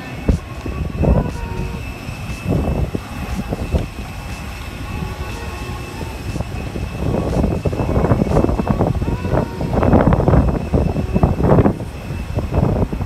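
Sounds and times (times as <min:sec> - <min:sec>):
high-pitched whine: 0:00.0 - 0:13.0
wind buffeting microphone: 0:00.0 - 0:13.0.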